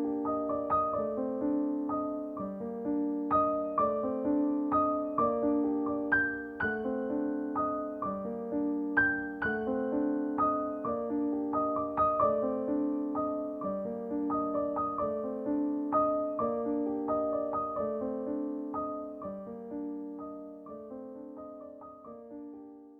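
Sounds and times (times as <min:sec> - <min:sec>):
gentle piano melody: 0:00.0 - 0:22.9.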